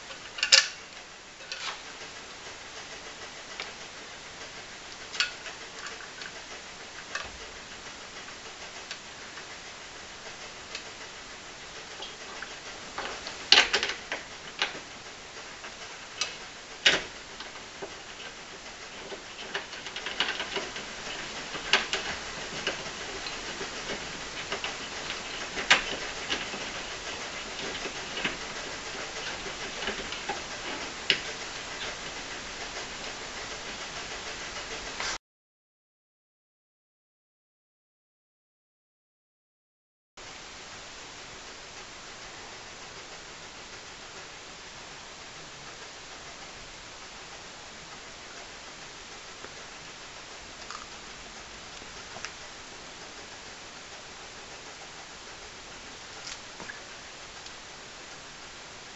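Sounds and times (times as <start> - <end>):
steady hiss: 0.0 - 35.2, 40.2 - 58.9.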